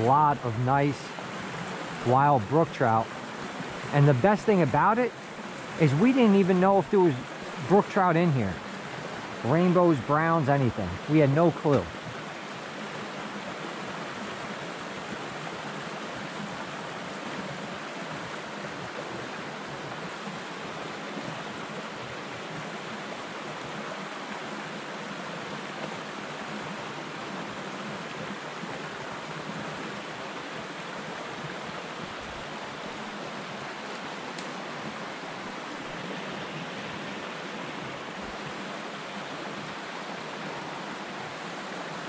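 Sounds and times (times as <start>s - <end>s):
brook flowing over stones: 0.0s - 42.0s.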